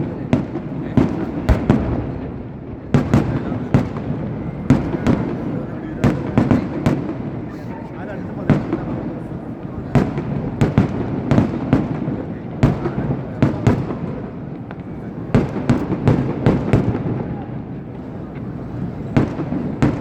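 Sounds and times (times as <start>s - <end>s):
firecracker bangs: 0.0s - 7.5s, 9.9s - 20.0s.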